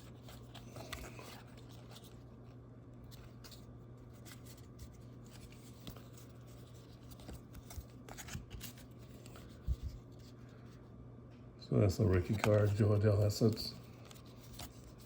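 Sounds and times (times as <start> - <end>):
trading cards rustling and clicking: 0.0 - 10.6, 11.9 - 15.0.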